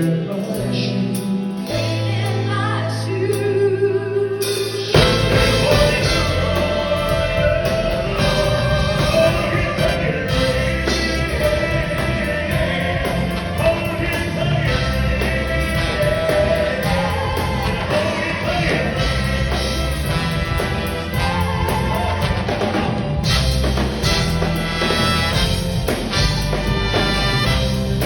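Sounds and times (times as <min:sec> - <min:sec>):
country-pop ballad with singing: 0:00.0 - 0:28.0.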